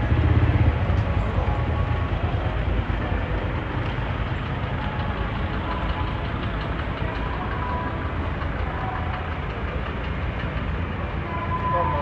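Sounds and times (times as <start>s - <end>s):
vans and trucks idling in traffic: 0.0s - 12.0s.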